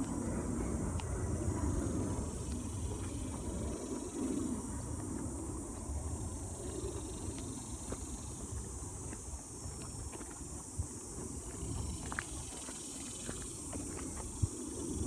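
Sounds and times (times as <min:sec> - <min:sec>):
insects hissing: 0:00.0 - 0:15.0
wind rumble on microphone: 0:00.0 - 0:15.0.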